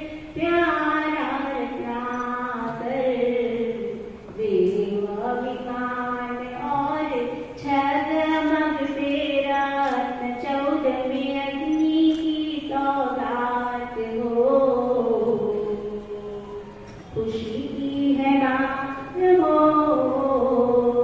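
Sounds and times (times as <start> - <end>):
women singing a devotional chant: 0.0 - 21.0.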